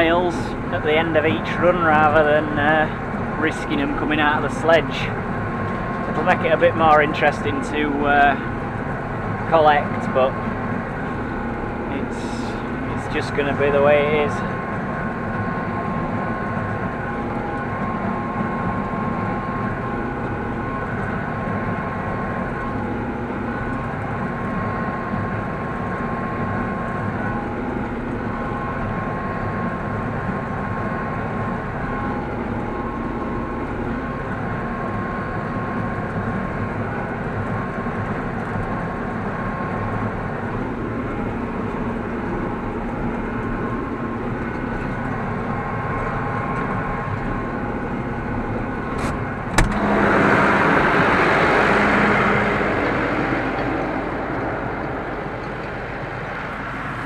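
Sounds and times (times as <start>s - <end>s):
baler machinery: 0.0s - 57.0s
tractor engine running: 0.0s - 57.0s
whining tones: 0.0s - 57.0s.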